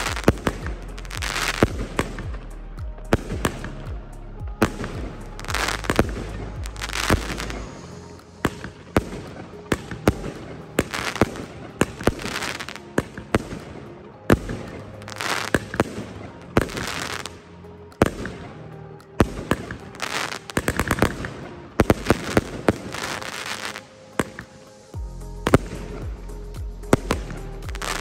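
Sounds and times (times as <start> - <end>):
firework crackling sizzle: 0.0 - 28.0
firework shots and bursts: 0.0 - 28.0.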